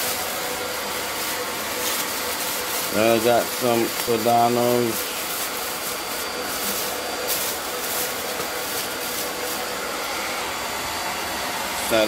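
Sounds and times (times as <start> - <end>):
plastic bag rustling: 0.0 - 10.8
steady rushing fan noise: 0.0 - 12.0.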